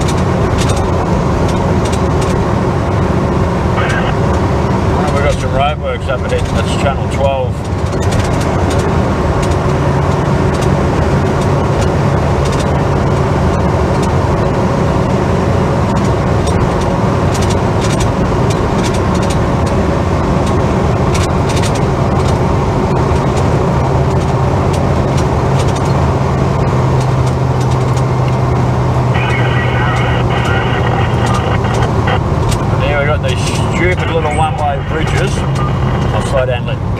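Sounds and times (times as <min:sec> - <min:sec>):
car engine and road drone: 0:00.0 - 0:36.9.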